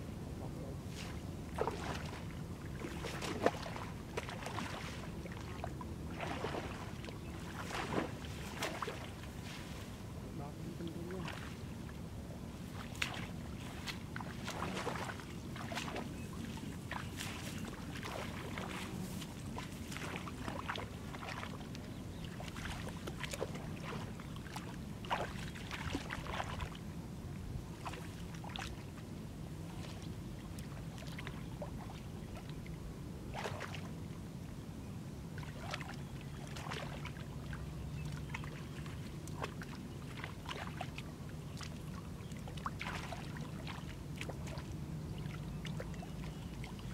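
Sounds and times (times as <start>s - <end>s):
steady low background noise: 0.0s - 46.9s.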